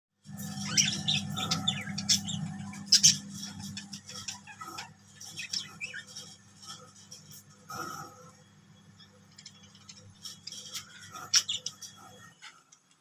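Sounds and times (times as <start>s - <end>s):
birds chirping: 0.2s - 13.0s
low steady hum: 0.2s - 13.0s.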